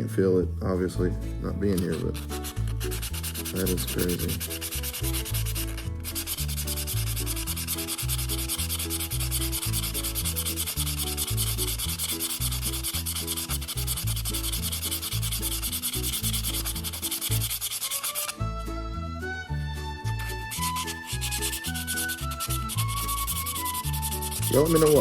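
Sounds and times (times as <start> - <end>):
background music with bass line: 0.8 - 17.6, 18.4 - 25.0
sandpaper rubbing on knife blade: 1.7 - 18.4, 20.1 - 25.0.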